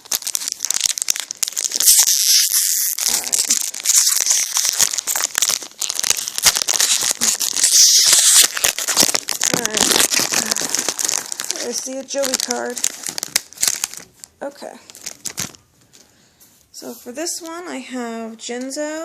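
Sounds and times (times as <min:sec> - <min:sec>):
foil wrapper crinkling and tearing: 0:00.0 - 0:15.7.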